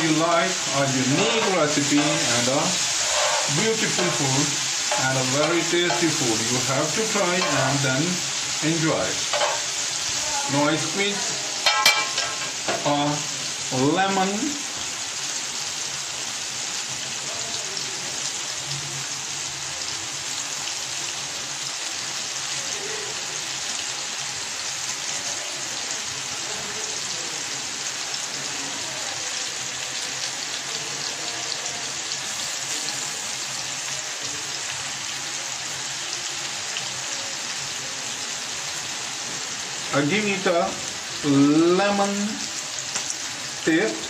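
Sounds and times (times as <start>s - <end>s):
chicken sizzling on griddle: 0.0s - 44.0s.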